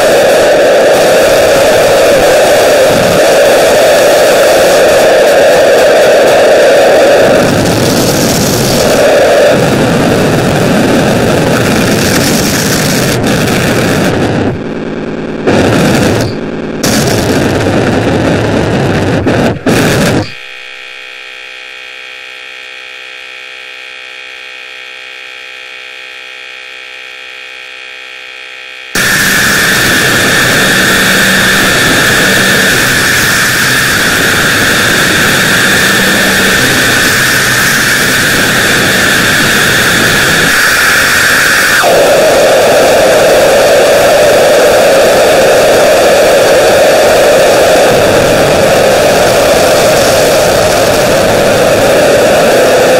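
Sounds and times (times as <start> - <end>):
harsh electronic static: 0.0 - 52.9
steady buzz: 0.0 - 52.9.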